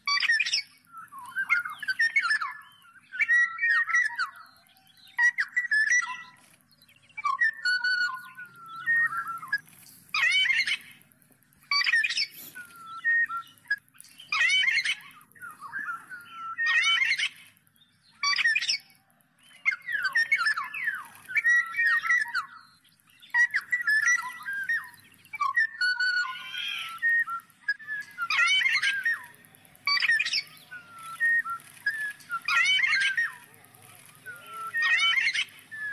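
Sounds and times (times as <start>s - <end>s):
clear whistled bird notes: 0.0s - 35.9s
harsh buzzy bird calls: 0.0s - 35.9s.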